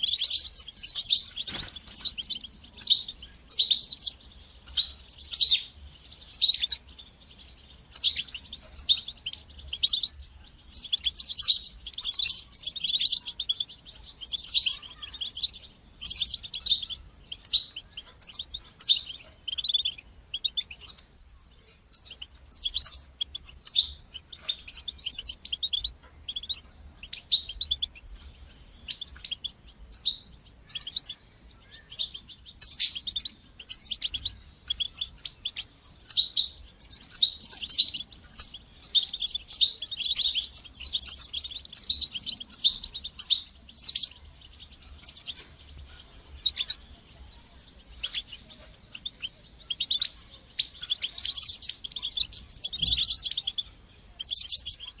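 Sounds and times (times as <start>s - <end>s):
finch singing: 0.0s - 55.0s.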